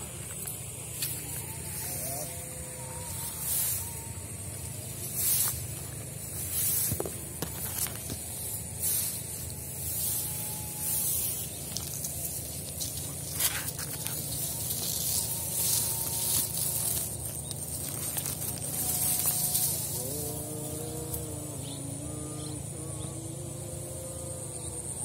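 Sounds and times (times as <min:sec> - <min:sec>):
grass and reeds rustling: 0:00.0 - 0:25.0
steady low rumble: 0:00.0 - 0:25.0.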